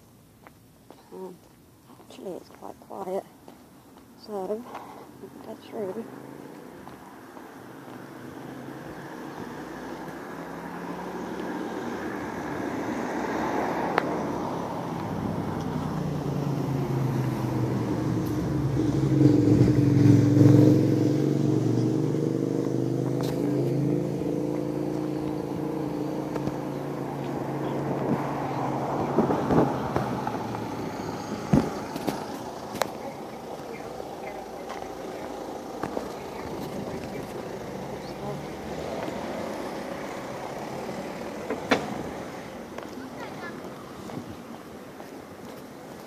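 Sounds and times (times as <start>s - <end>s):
car passing by: 5.9s - 44.6s.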